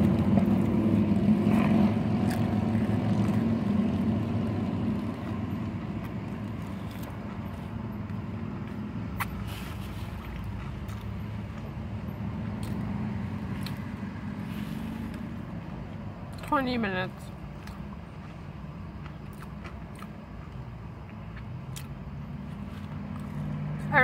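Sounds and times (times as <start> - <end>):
vehicle rumble from inside car: 0.0 - 24.0.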